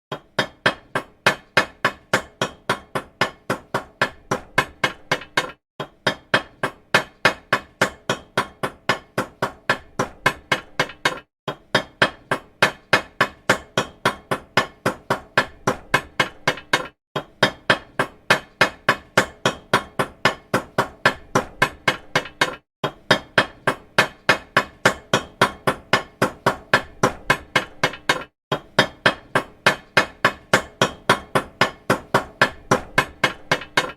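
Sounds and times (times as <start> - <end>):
small metal hammer tapping: 0.1 - 33.9.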